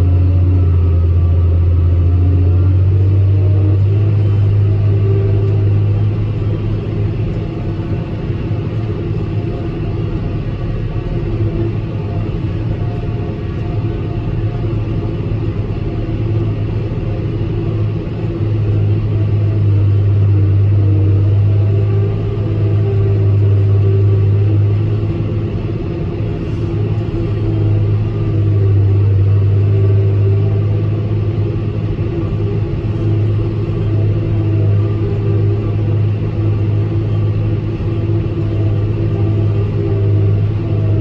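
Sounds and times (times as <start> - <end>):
tractor and forage harvester drone: 0.0 - 41.0.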